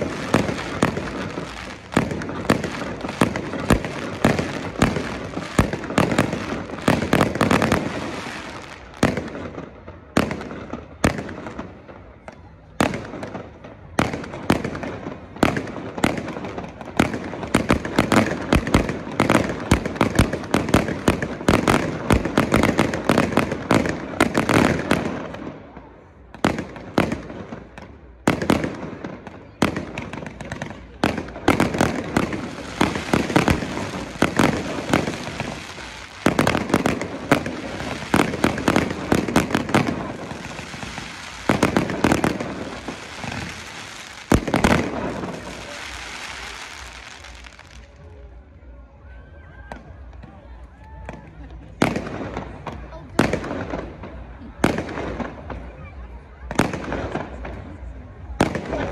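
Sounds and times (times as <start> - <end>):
fireworks bangs and pops: 0.0 - 48.2, 51.0 - 58.9.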